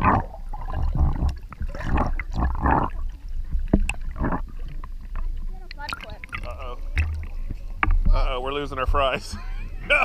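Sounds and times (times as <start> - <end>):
underwater water gurgling: 0.0 - 9.1.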